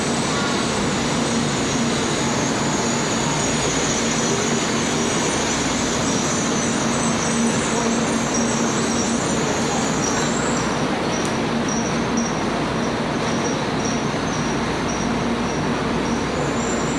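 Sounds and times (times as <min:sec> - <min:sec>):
train wheels rumbling: 0:00.0 - 0:16.9.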